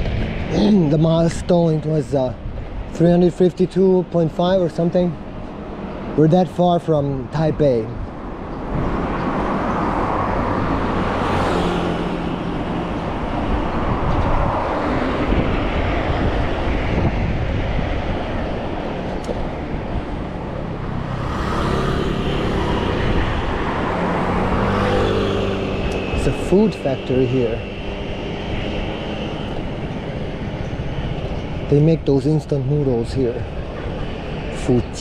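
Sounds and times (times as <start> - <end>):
highway traffic: 0.0 - 35.0
vehicles passing close by: 0.0 - 35.0.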